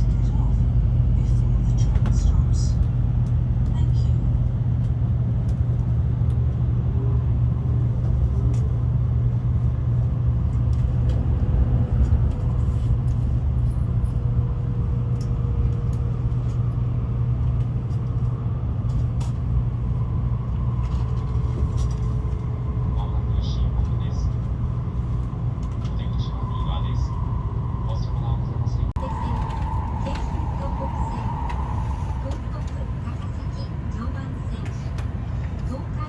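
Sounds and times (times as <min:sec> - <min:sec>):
train cabin rumble: 0:00.0 - 0:36.0.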